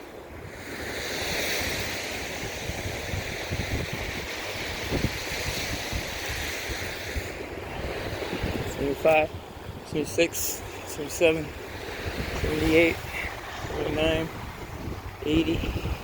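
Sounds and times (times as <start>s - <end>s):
surf washing on beach: 0.0s - 16.0s
wind rumbling on microphone: 0.0s - 16.0s.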